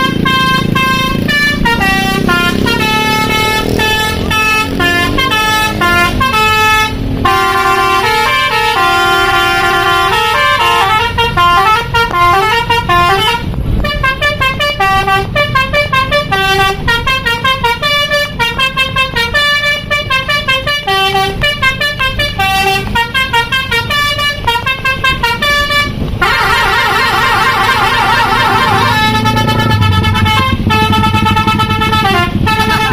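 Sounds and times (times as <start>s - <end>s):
musical bus horn playing a tune: 0.0s - 32.9s.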